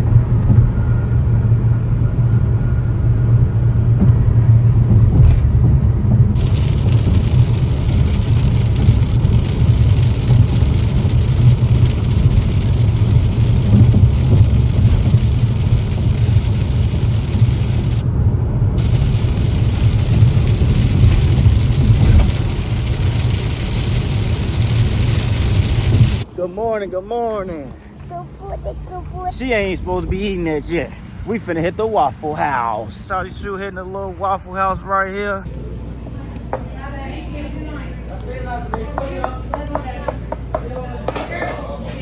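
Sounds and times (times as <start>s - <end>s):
vehicle engine and road noise: 0.0s - 35.4s.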